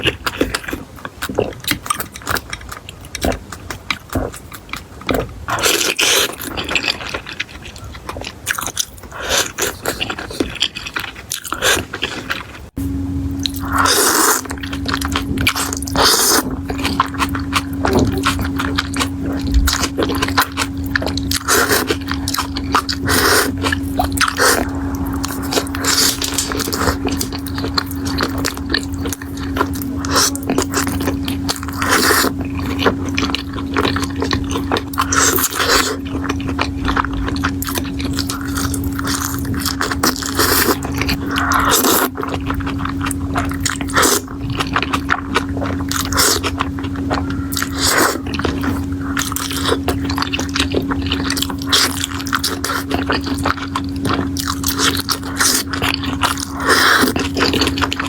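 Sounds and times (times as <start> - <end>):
crunchy bites and chewing: 0.0 - 12.8, 13.4 - 58.0
steady low hum: 0.0 - 58.0.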